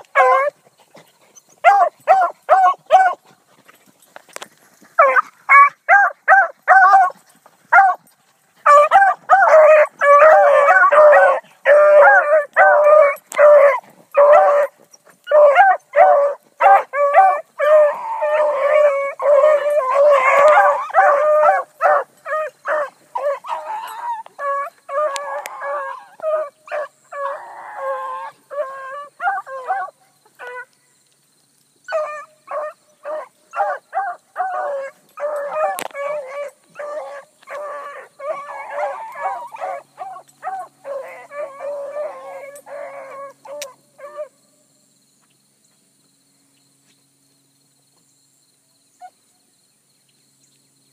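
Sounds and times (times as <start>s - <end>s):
hounds baying and barking: 0.0s - 30.8s, 31.9s - 44.4s.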